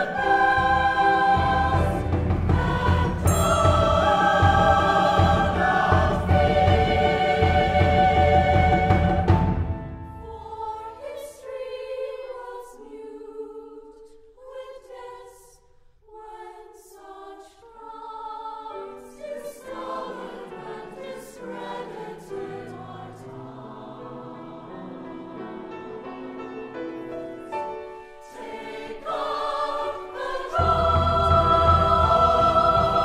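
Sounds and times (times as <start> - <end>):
choir singing sustained chords: 0.0 - 33.0.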